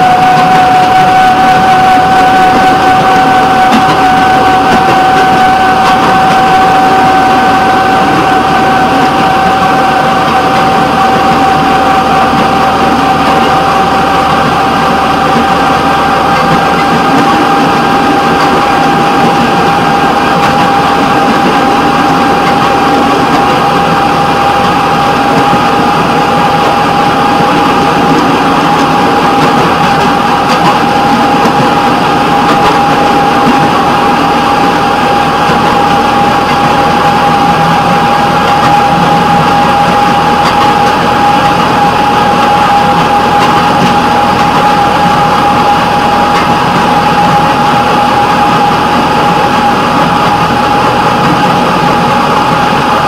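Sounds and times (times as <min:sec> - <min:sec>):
rail vehicle engine and rolling: 0:00.0 - 0:53.0
steady high whine: 0:00.0 - 0:53.0.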